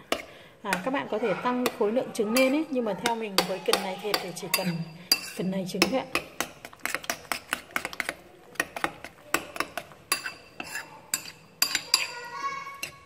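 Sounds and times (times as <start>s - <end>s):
spoon clinking against ceramic bowl: 2.4s - 13.0s.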